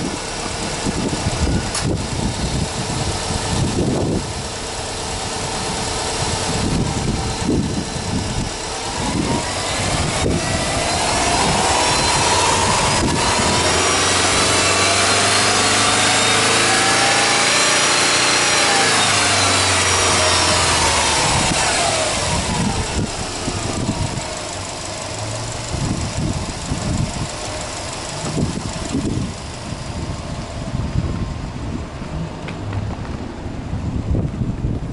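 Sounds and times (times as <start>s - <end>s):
car engine revving: 0.0s - 33.8s.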